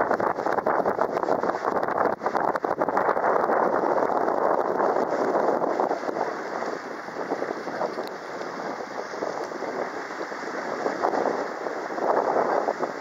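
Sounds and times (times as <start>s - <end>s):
boat moving through water: 0.0s - 13.0s
wind buffeting microphone: 0.0s - 13.0s.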